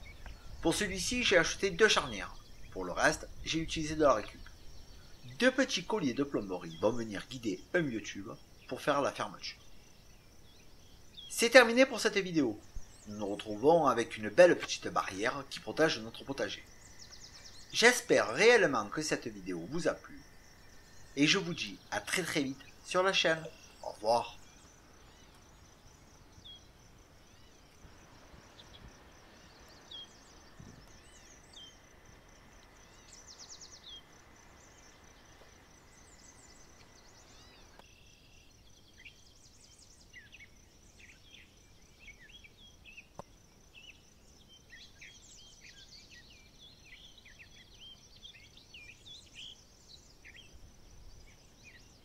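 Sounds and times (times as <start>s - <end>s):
faint birdsong: 0.0s - 52.0s
faint steady hiss: 0.0s - 52.0s
high insect trill: 0.0s - 52.0s.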